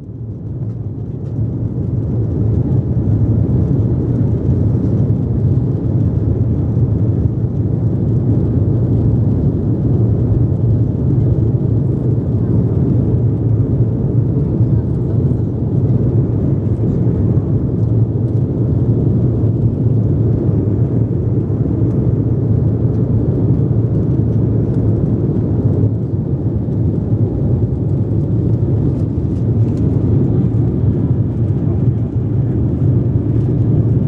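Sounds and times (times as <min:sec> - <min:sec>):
jet engines at take-off thrust: 0:00.0 - 0:34.0.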